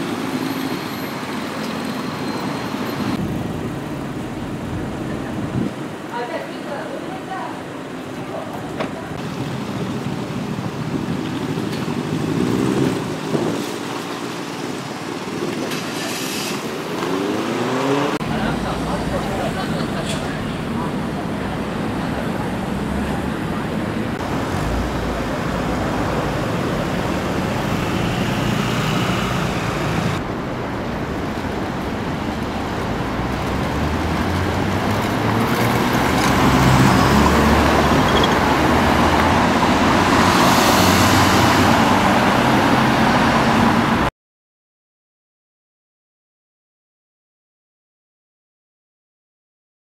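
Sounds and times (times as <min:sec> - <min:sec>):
road traffic passing: 0:00.0 - 0:44.1.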